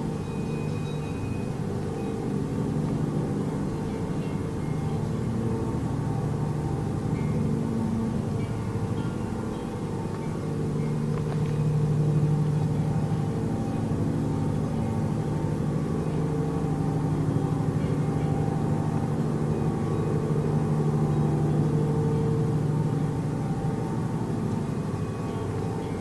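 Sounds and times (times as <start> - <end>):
low-pitched drone hum: 0.0 - 26.0.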